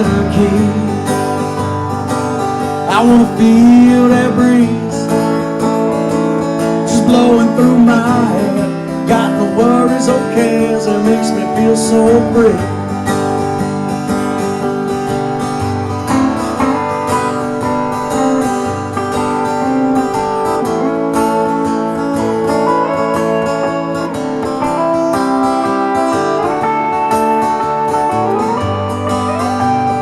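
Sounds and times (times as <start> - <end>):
acoustic guitar strumming: 0.0 - 30.0
country guitar instrumental: 0.0 - 30.0.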